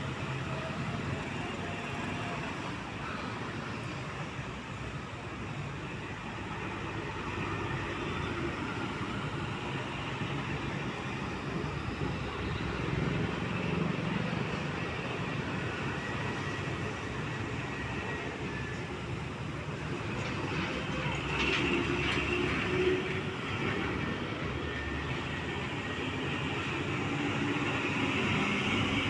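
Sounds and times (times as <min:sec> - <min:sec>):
heavy trucks passing: 0:00.0 - 0:29.0.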